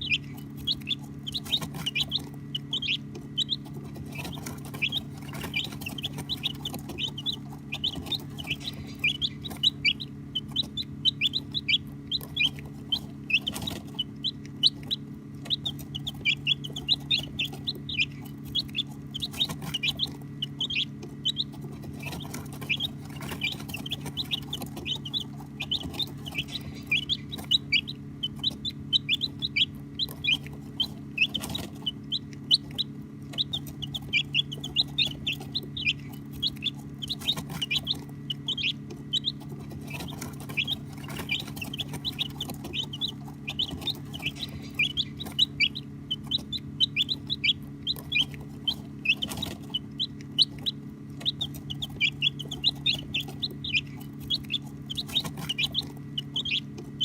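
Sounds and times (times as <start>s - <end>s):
baby chicks peeping: 0.0s - 57.0s
steady low hum: 0.0s - 57.0s.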